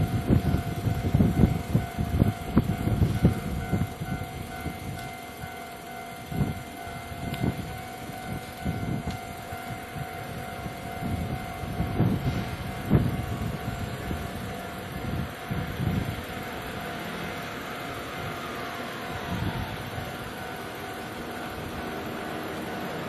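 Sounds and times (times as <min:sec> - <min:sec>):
crossing warning bell ringing: 0:00.0 - 0:23.0.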